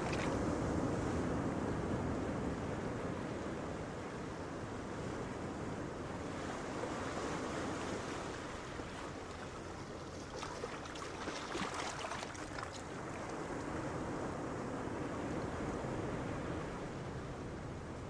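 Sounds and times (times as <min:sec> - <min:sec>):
surf washing on beach: 0:00.0 - 0:18.0
wind: 0:00.0 - 0:18.0.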